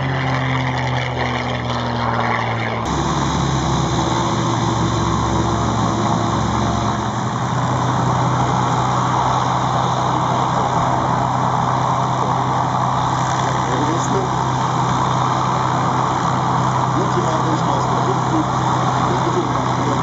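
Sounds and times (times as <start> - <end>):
aircraft engine in flight: 0.0 - 20.0
propeller engine idling: 0.0 - 20.0.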